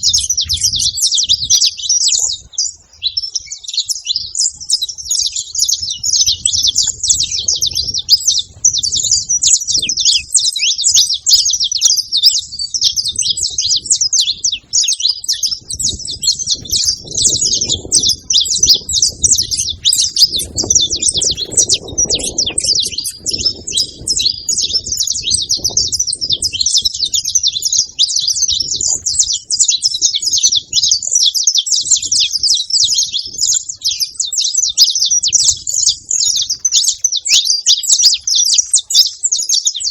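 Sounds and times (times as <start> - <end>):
finch singing high chirps: 0.0 - 39.9.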